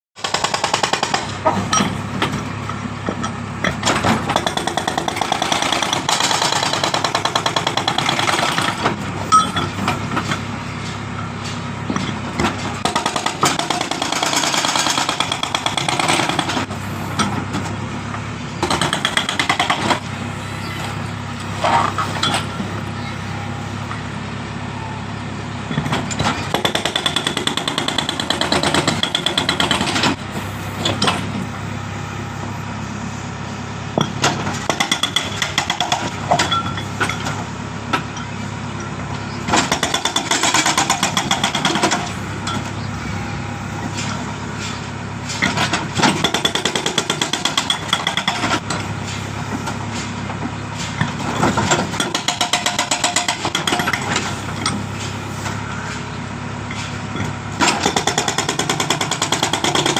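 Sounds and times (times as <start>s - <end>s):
diesel engine running: 0.2s - 59.9s
hydraulic breaker hammering road: 0.2s - 59.9s.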